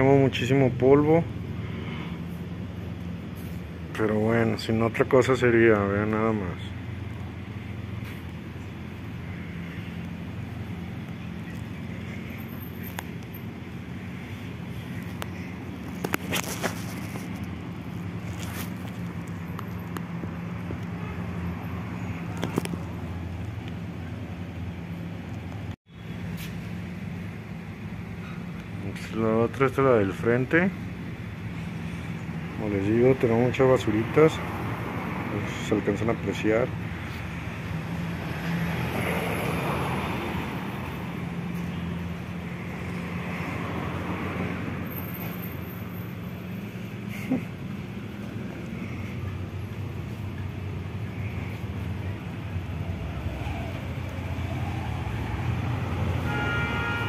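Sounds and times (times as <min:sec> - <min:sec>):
vehicle noise with low hum: 0:00.0 - 0:57.0.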